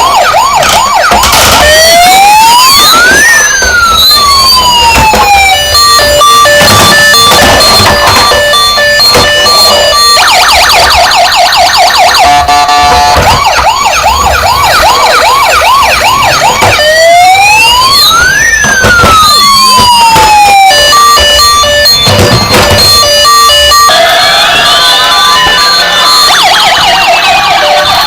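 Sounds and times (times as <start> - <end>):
toy electronic siren: 0.0 - 28.0.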